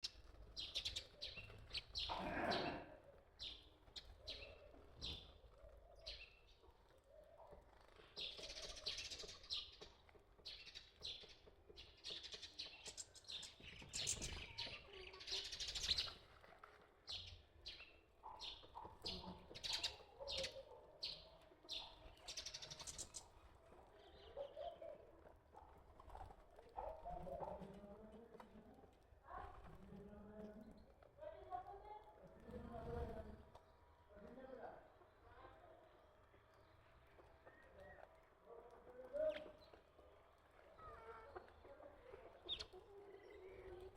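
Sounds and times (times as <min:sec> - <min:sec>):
birds chirping: 0:00.0 - 0:27.8, 0:32.7 - 0:43.9.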